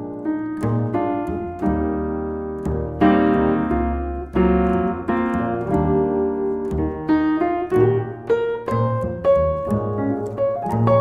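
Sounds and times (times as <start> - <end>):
muted piano playing jazz chords: 0.0 - 11.0.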